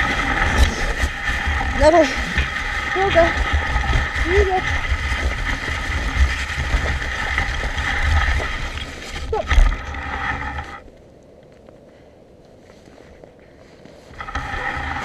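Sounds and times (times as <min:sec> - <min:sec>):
dog sled rushing along trail: 0:00.0 - 0:10.8, 0:13.2 - 0:15.0.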